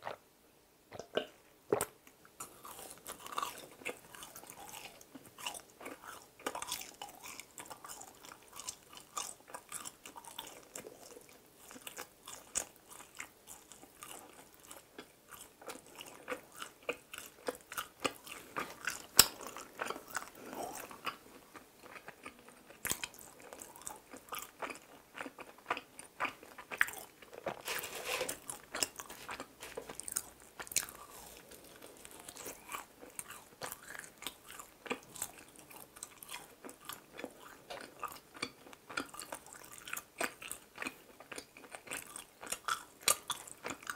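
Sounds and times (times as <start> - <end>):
close chewing crunches: 1.7 - 43.9.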